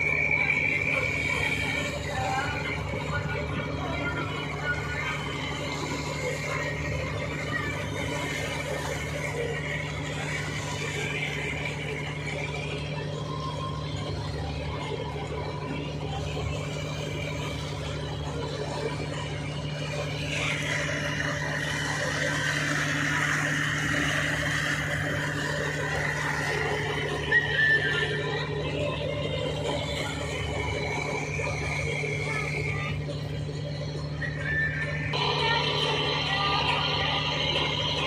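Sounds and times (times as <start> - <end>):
boat engine running: 0.0 - 38.0
high wavering squeal: 0.0 - 38.0.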